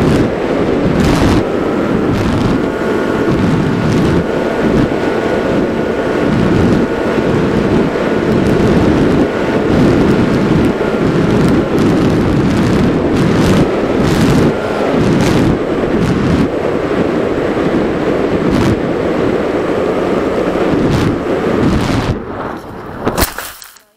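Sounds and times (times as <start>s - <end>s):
electric motor and propeller whine: 0.0s - 23.2s
wind buffeting microphone: 0.0s - 23.3s.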